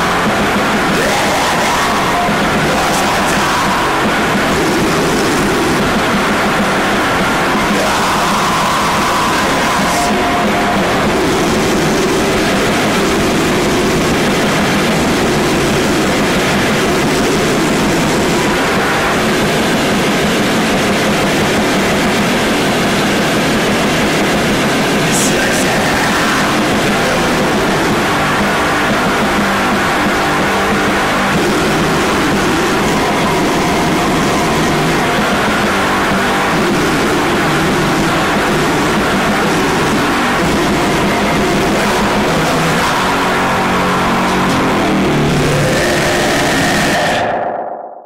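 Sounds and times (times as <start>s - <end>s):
high crackles: 0.0s - 47.1s
distorted harsh noise music: 0.0s - 48.0s.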